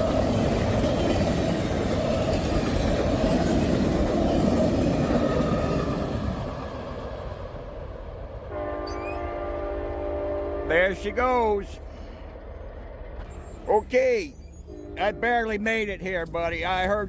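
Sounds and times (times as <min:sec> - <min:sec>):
train passing on rails: 0:00.0 - 0:17.0.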